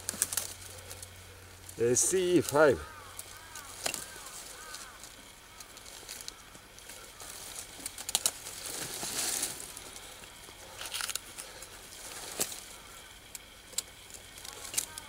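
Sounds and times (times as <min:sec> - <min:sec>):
rustling of dry leaves: 0:00.0 - 0:15.0.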